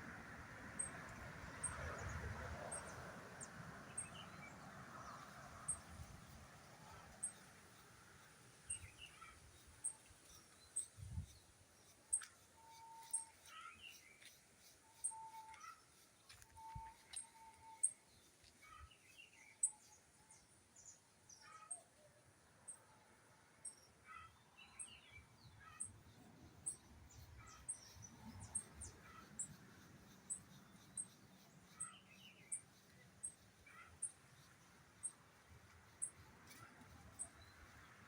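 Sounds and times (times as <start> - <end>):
birds calling and chirping: 0.8 - 22.1, 23.6 - 38.0.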